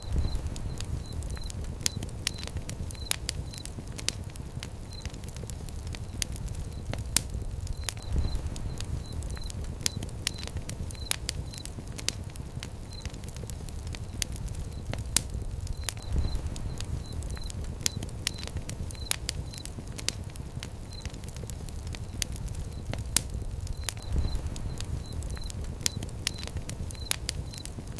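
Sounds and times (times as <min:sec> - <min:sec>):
fire crackling and popping: 0:00.0 - 0:27.9
low rumble of flames: 0:00.0 - 0:27.9.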